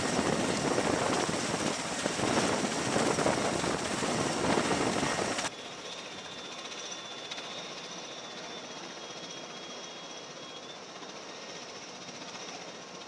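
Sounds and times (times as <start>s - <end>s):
aircraft engine and rotor noise: 0.0s - 13.0s.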